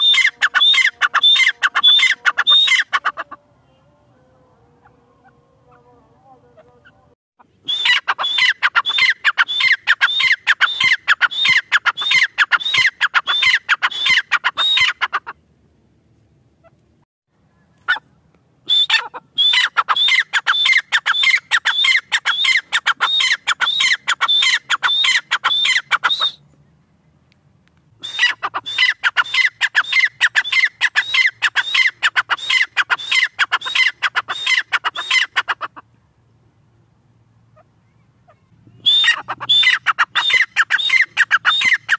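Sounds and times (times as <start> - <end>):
francolin calling: 0.0 - 4.0, 4.8 - 15.3, 18.7 - 26.4, 28.0 - 35.7, 37.6 - 41.9.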